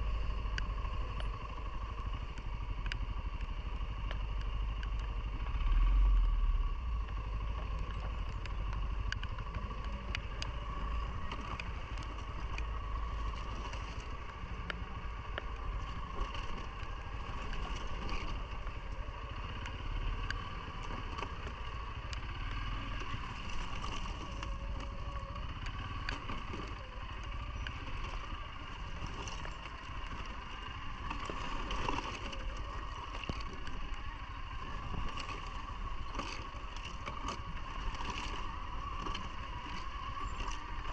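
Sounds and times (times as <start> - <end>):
atv engine whining: 0.0 - 40.9.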